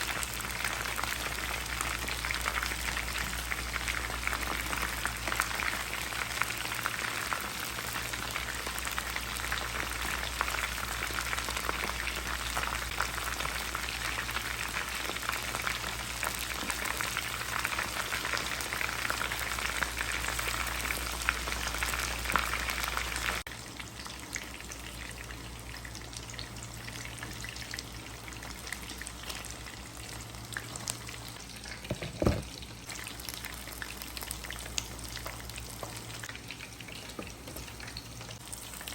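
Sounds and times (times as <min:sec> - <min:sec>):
chicken frying in hot oil: 0:00.0 - 0:38.9.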